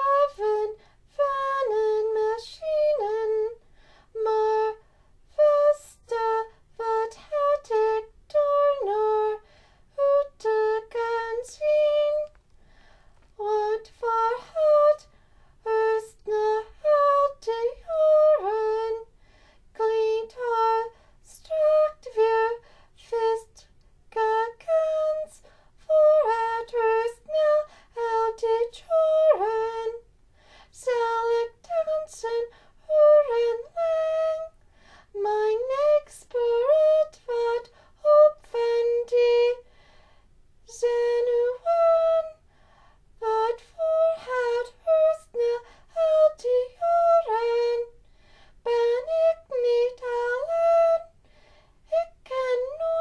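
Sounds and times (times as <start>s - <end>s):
woman singing unaccompanied: 0.0s - 3.6s, 4.2s - 12.4s, 13.3s - 19.1s, 19.7s - 30.1s, 30.7s - 39.7s, 40.6s - 42.5s, 43.2s - 48.0s, 48.6s - 51.2s, 51.8s - 53.0s.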